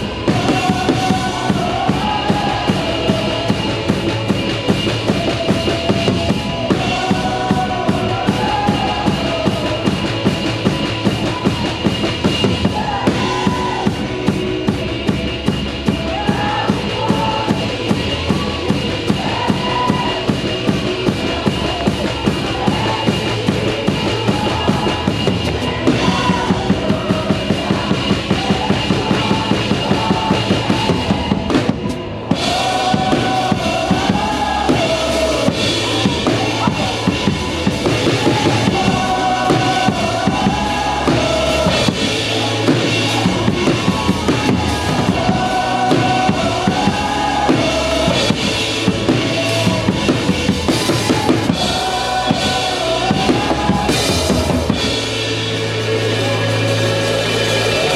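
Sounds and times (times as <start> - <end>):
drum kit playing driving beat: 0.0 - 57.9
live worship band music: 0.0 - 57.9.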